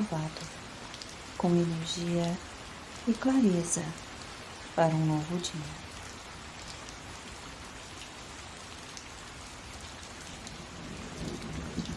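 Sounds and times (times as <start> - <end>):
distinct raindrops: 0.0 - 11.9
steady rain: 0.0 - 11.9.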